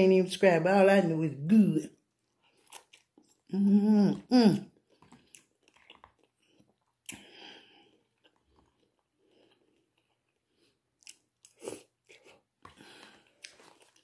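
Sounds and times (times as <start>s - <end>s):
person chewing: 2.0s - 14.0s.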